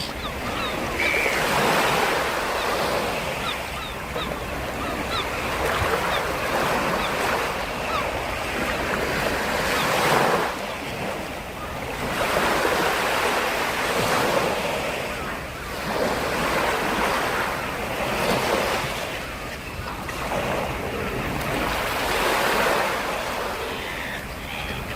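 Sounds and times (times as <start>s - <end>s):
sea waves washing in: 0.0s - 24.9s.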